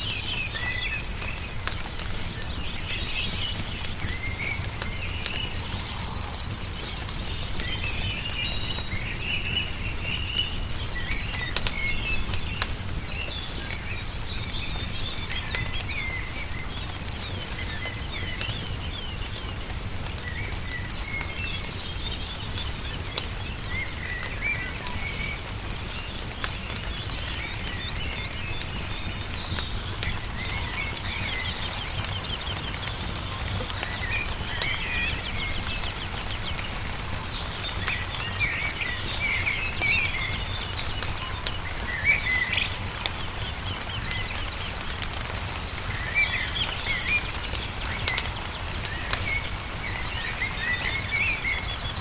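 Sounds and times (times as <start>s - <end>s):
small birds chirping and trilling: 0.0s - 52.0s
wood fire crackling: 0.0s - 52.0s.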